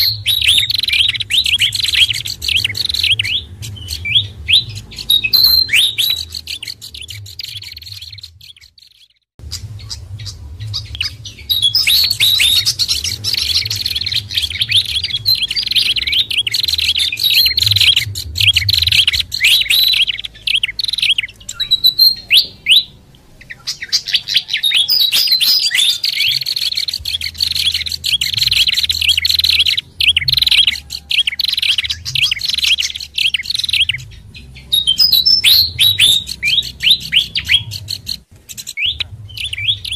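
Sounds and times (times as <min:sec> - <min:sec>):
faint low hum: 0:00.0 - 0:39.9
songbirds chirping and twittering: 0:00.0 - 0:39.9.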